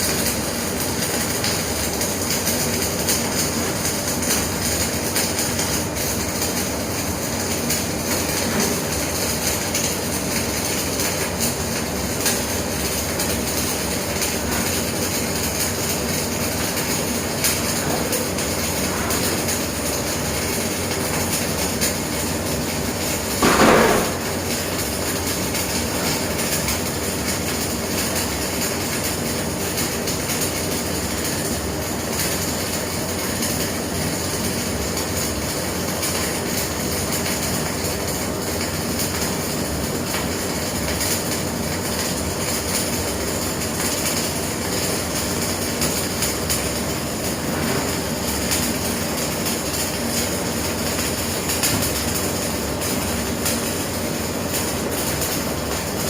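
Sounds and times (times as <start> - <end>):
arc welding crackling hiss: 0.0 - 56.0.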